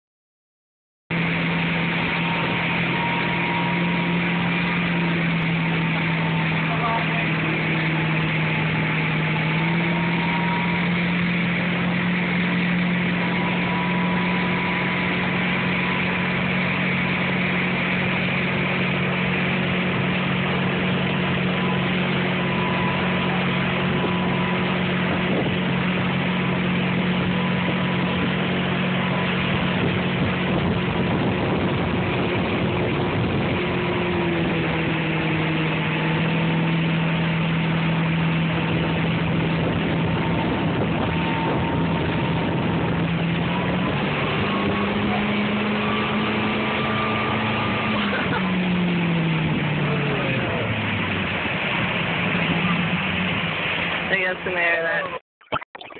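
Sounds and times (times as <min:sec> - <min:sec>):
churning wake water: 0:01.1 - 0:55.9
motorboat engine running: 0:01.1 - 0:55.9.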